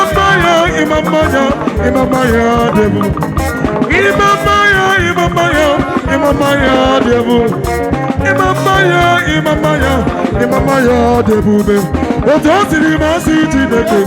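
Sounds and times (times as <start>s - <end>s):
live gospel band playing: 0.0s - 14.0s
steady drum beat: 0.0s - 14.0s.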